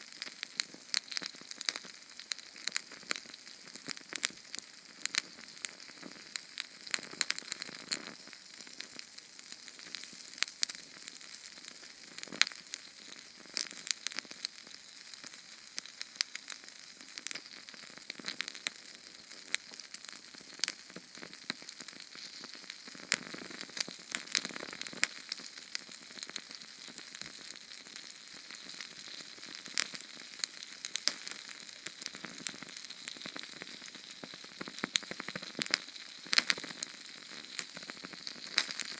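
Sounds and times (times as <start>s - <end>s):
small flame hissing and crackling: 0.0s - 38.9s.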